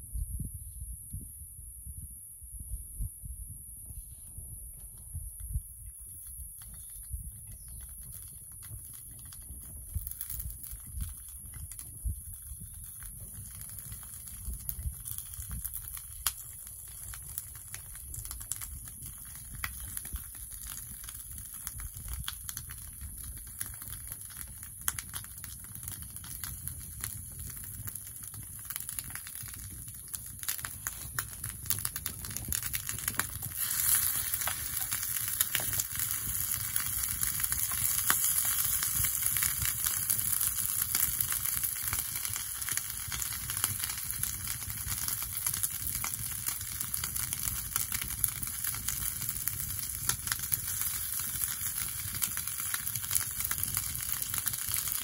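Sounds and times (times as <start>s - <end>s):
sharp fire crackles: 4.7s - 55.0s
food sizzling over fire: 5.8s - 55.0s.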